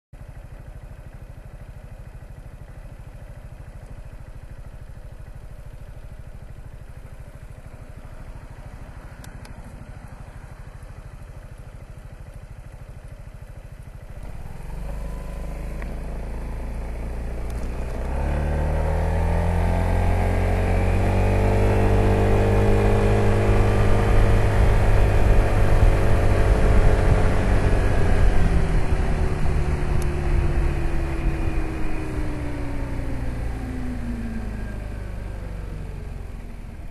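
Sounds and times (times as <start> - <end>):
scooter engine idling and accelerating: 0.2 - 36.9.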